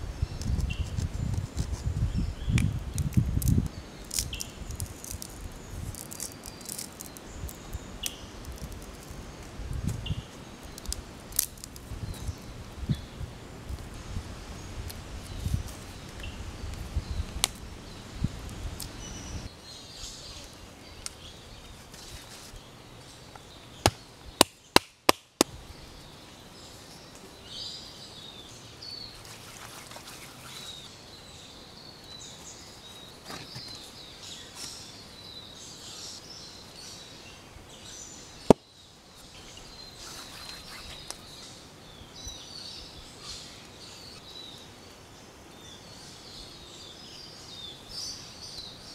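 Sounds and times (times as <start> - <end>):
birds and insects chirping: 0.0 - 48.9.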